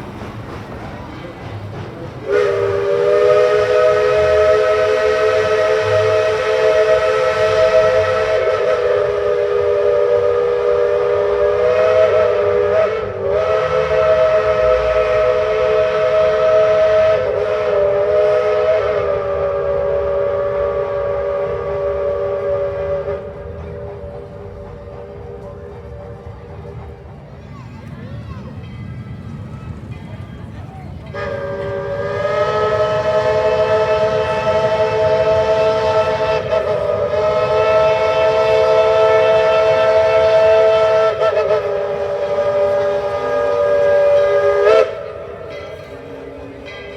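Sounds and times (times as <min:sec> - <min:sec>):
steam locomotive chime whistle: 0:02.2 - 0:26.6, 0:31.1 - 0:46.9.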